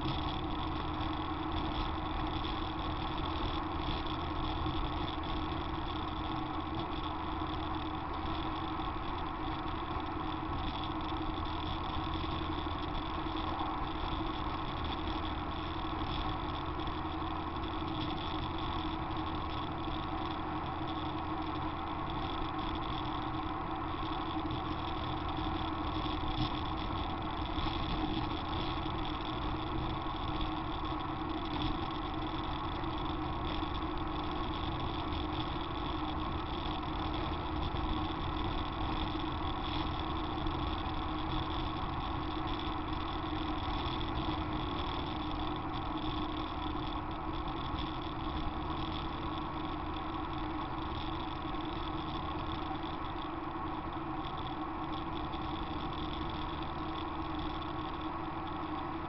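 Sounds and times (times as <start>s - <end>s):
tyre and engine drone: 0.0s - 59.0s.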